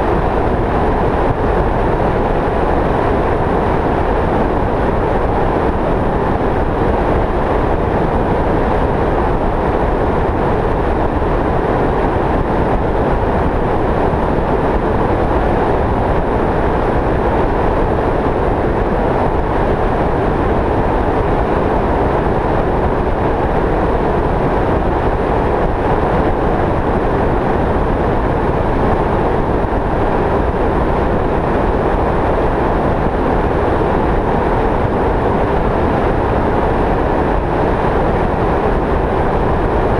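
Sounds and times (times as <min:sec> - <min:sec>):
wind road noise: 0:00.0 - 0:39.9.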